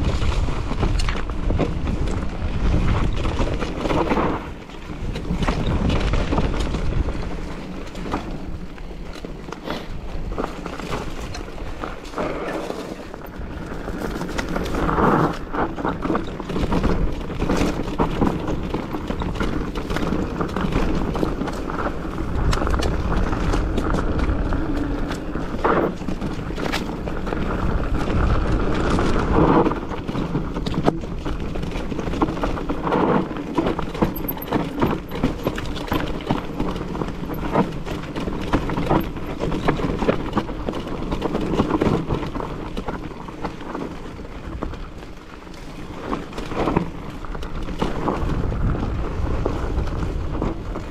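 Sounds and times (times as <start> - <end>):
wind on microphone: 0.0 - 43.2, 44.2 - 50.9
bike clattering: 0.0 - 50.9.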